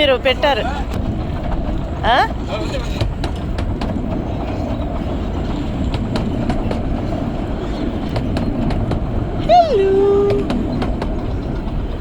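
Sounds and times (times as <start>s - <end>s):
train rumbling: 0.0s - 12.0s
wheels clicking over track: 0.0s - 12.0s.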